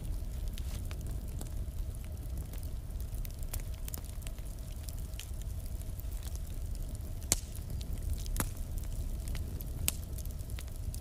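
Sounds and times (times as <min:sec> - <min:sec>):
fire crackling and popping: 0:00.0 - 0:11.0
low rumble of flames: 0:00.0 - 0:11.0.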